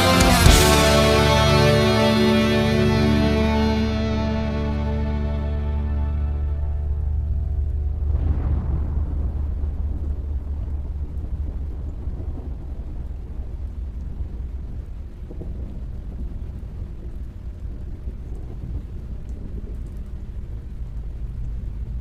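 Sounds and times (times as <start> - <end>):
thunder rumble: 0.0 - 22.0
rain hiss: 4.2 - 22.0.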